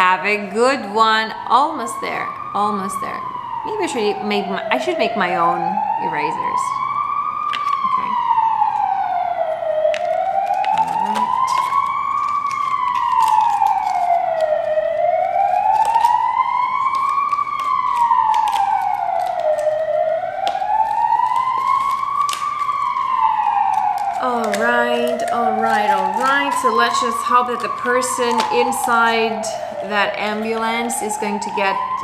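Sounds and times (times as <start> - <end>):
ambulance siren wailing: 0.0 - 32.0.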